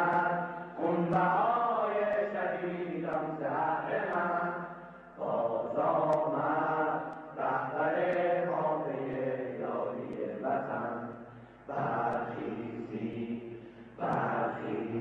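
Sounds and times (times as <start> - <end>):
voices chanting in unison: 0.0 - 15.0.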